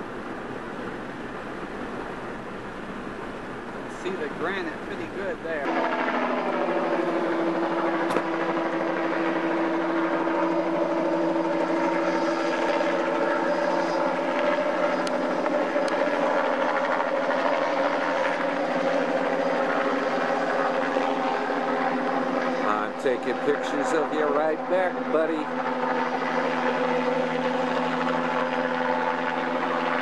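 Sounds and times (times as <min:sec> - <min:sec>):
helicopter droning overhead: 0:00.0 - 0:30.0.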